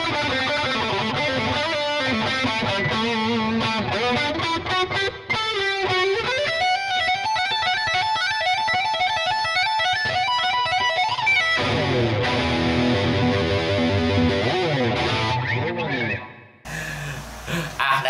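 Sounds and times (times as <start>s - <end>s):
distorted electric guitar solo: 0.0s - 16.2s.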